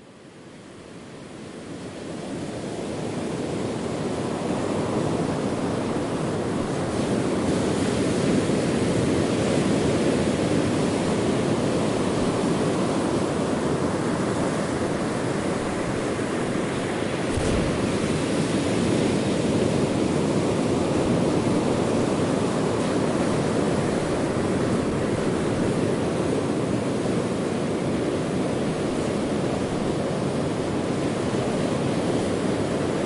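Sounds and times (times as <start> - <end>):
waves washing onto shore: 0.5 - 33.0.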